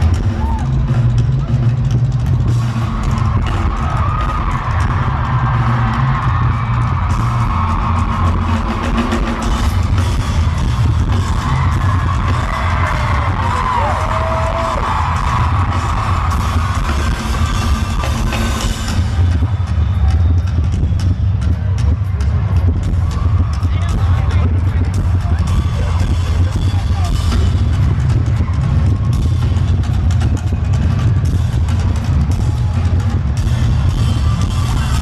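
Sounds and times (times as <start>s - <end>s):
loud music with heavy bass: 0.0s - 35.0s.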